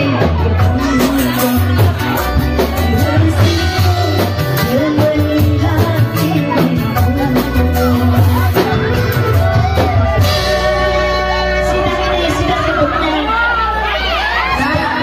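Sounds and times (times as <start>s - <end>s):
woman singing into microphone: 0.0s - 8.9s, 9.6s - 15.0s
steady drum beat: 0.0s - 13.7s
bass line: 0.0s - 15.0s
loud amplified music: 0.0s - 15.0s.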